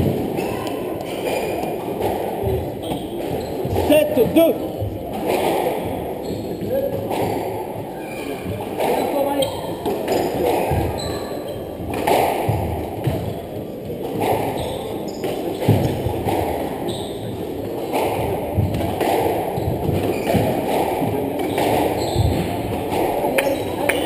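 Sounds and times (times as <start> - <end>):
shoes squeaking: 0.4 - 5.6, 6.2 - 24.0.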